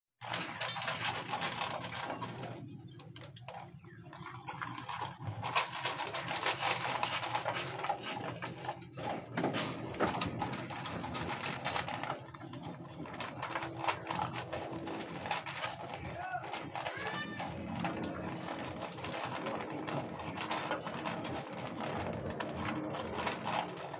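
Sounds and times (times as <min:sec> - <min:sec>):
dog crunching kibble in metal bowl: 0:00.2 - 0:23.9.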